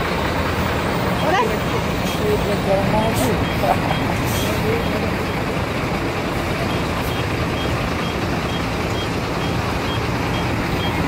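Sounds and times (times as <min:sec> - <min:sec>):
diesel trucks idling: 0:00.0 - 0:11.0.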